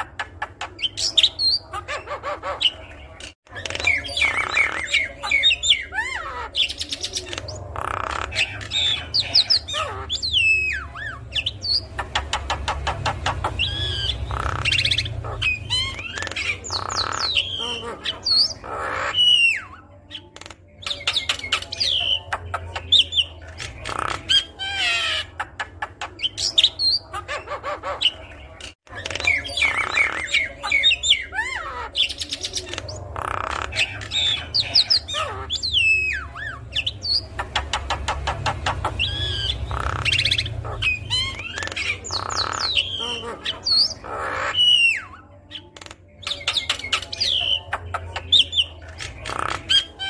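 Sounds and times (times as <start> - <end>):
bird singing varied song: 0.0 - 50.0
harsh squawky bird calls: 0.0 - 50.0.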